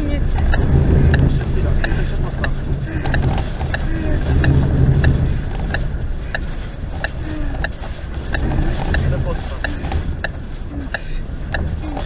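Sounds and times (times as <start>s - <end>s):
regular ticking: 0.0s - 12.0s
vehicle rumbling on road: 0.0s - 12.0s.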